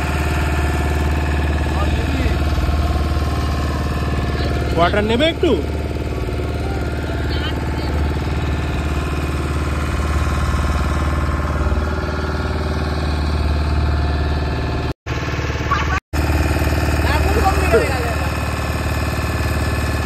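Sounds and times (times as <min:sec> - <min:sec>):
motor boat engine running: 0:00.0 - 0:20.0.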